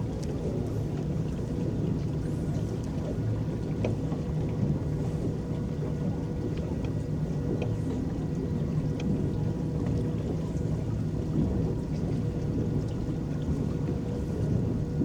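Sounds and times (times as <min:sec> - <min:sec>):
water lapping against hull: 0:00.0 - 0:15.0.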